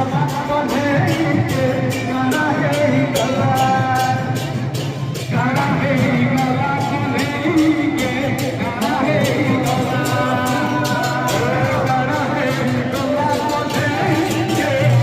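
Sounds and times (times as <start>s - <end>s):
song with singing and beat: 0.0s - 15.0s.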